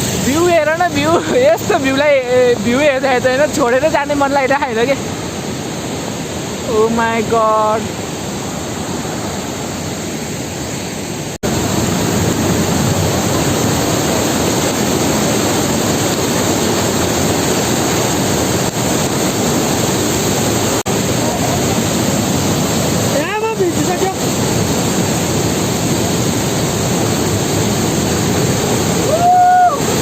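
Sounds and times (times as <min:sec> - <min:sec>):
heavy rain: 0:00.0 - 0:30.0
waterfall rushing: 0:00.0 - 0:30.0.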